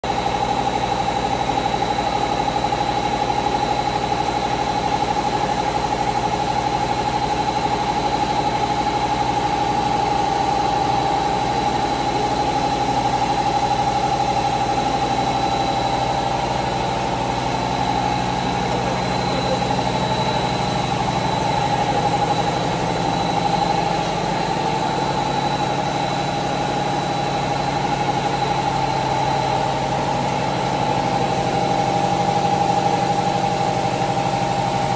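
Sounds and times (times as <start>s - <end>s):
constant high whine: 0.1s - 34.9s
machine motor hum: 0.1s - 34.9s.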